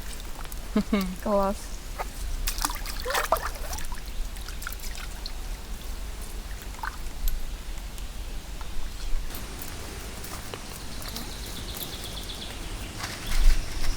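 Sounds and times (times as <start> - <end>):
water splashing and trickling: 0.0 - 8.0, 9.3 - 13.9.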